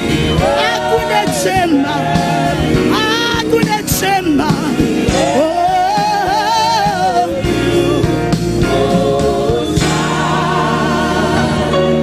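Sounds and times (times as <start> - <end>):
worship band playing: 0.0 - 12.0.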